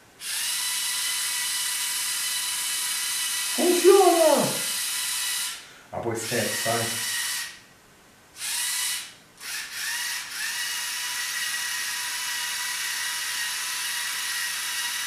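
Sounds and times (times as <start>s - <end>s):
toy motors whining through gears: 0.2s - 5.6s, 6.2s - 7.6s, 8.4s - 15.0s.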